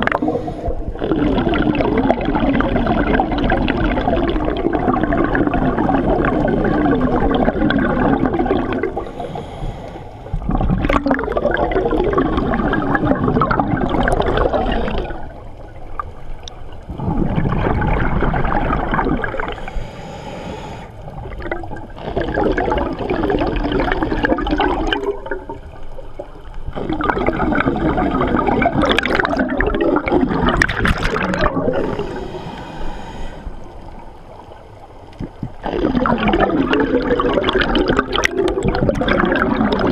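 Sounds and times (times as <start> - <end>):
scuba regulator bubbling exhalations: 0.0 - 15.8, 16.8 - 34.1, 35.1 - 39.9.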